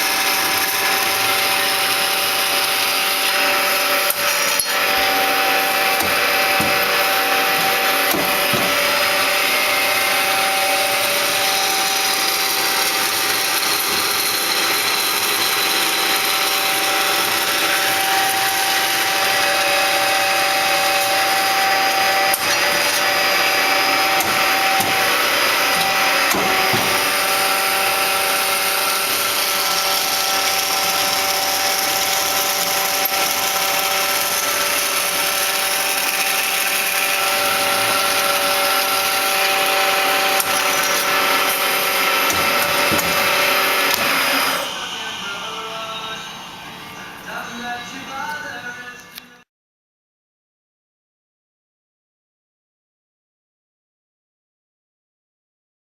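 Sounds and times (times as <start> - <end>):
bandsaw running with whine: 0.0 - 47.8.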